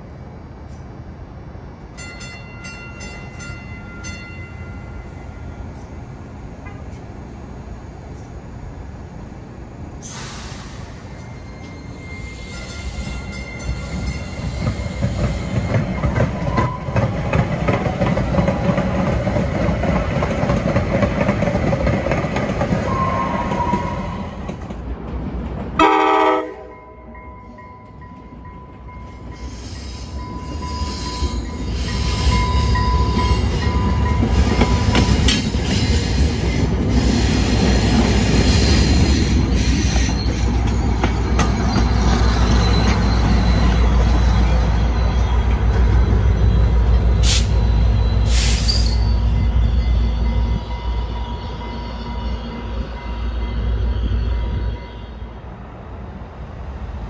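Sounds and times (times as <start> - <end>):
diesel train engine rumble: 0.0 - 57.0
light-rail car rolling past: 0.0 - 57.0.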